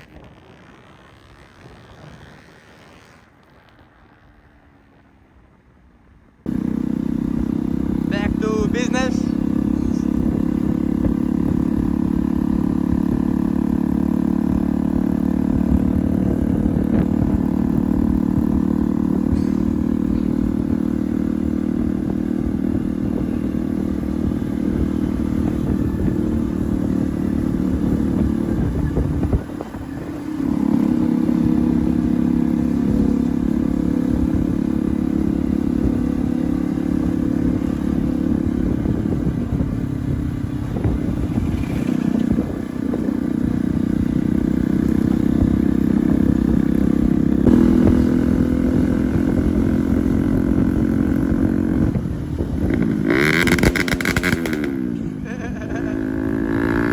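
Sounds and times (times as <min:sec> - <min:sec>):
motorcycle engine drone: 0:00.0 - 0:05.6, 0:06.4 - 0:56.9.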